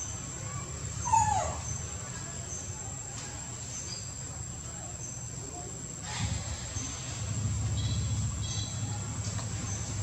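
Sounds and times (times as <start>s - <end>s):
high insect-like hiss: 0.0s - 10.0s.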